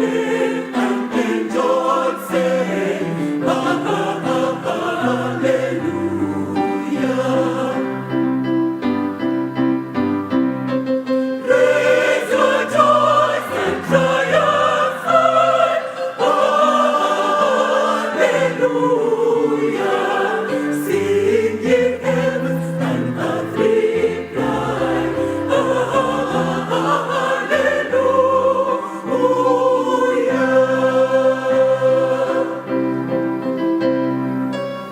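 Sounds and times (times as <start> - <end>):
choir singing in harmony: 0.0 - 34.9.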